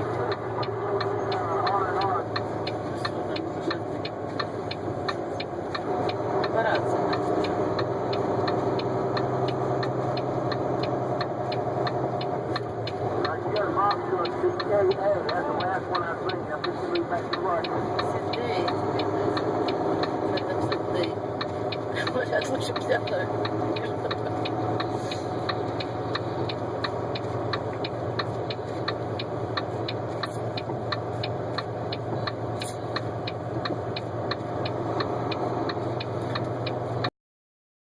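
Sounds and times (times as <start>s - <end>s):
light regular ticking: 0.0s - 37.1s
vehicle engine running: 0.0s - 37.1s.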